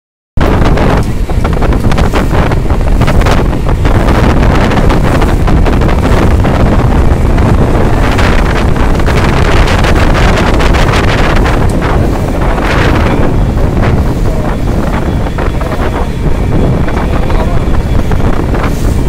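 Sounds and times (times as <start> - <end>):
wind buffeting microphone: 0.4 - 19.0.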